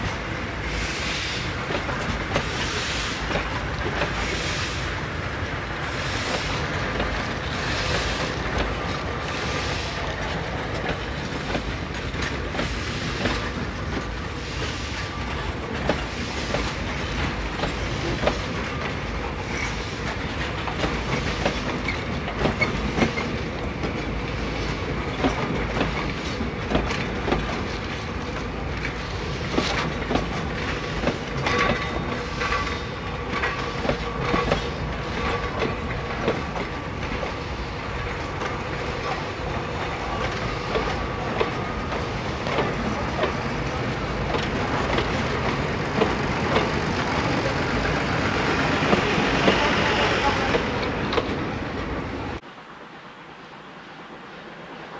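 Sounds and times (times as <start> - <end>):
train wagon wheels clanking: 0.0 - 52.4.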